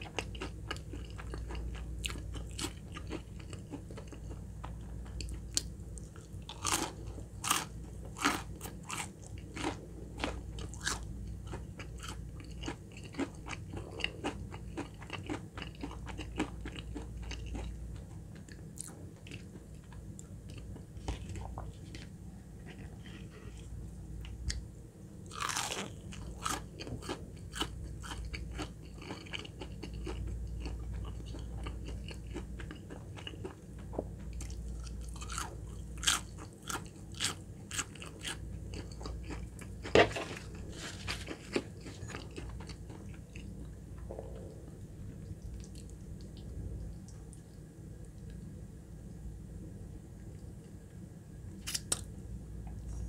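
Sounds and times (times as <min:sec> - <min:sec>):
crunchy chewing of fried chicken: 0:00.0 - 0:24.6, 0:25.3 - 0:48.6
steady low hum: 0:00.0 - 0:53.0.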